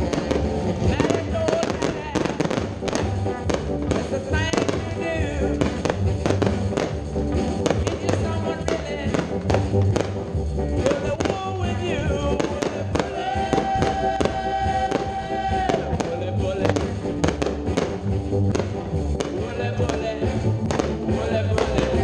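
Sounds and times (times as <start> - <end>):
firework shells bursting: 0.0 - 22.0
song with steady beat: 0.0 - 22.0.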